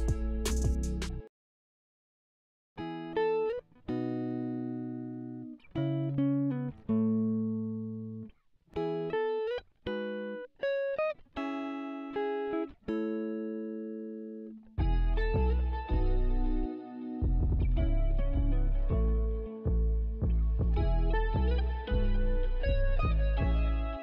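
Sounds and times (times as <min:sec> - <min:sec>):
clean guitar plucked notes: 0:00.0 - 0:01.2, 0:02.8 - 0:24.0.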